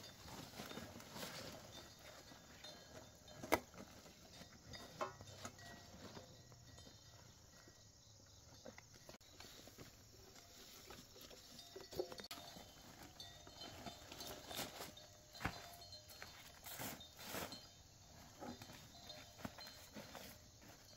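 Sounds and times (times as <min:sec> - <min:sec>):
leaves and stems rustling: 0:00.0 - 0:20.9.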